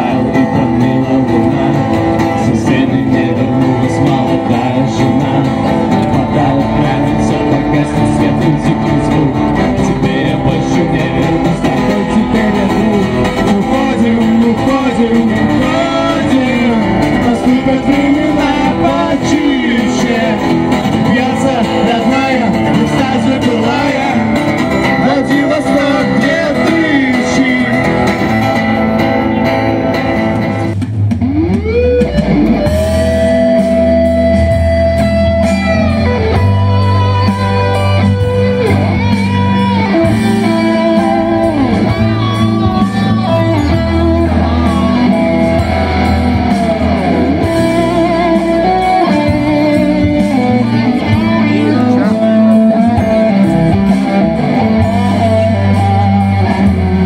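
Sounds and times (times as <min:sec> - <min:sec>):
man singing: 0:00.0 - 0:29.0, 0:38.2 - 0:57.0
acoustic guitar: 0:00.0 - 0:57.0
bass accompaniment: 0:00.0 - 0:57.0
electric guitar bent notes: 0:00.0 - 0:57.0.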